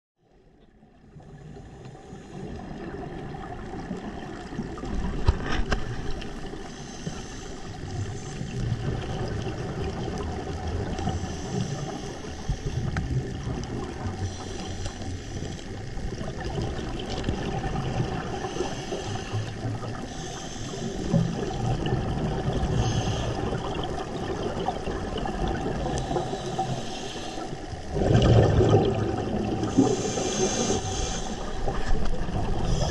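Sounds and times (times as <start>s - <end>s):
underwater rumble: 0.2s - 32.9s
hissing bubbles: 6.6s - 32.9s.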